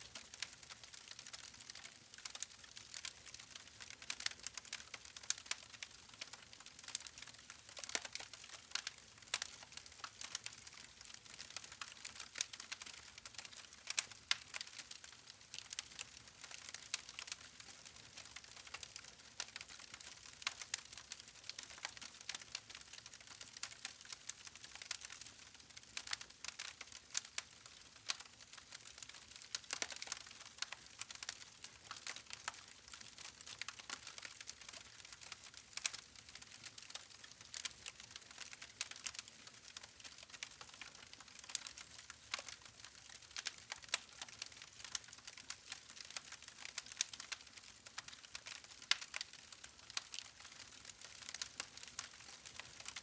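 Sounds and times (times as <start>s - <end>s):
campfire crackling and popping: 0.1s - 53.0s.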